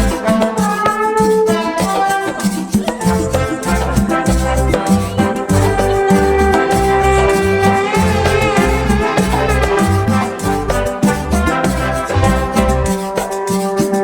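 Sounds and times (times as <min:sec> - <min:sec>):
upbeat latin-style music: 0:00.0 - 0:14.0.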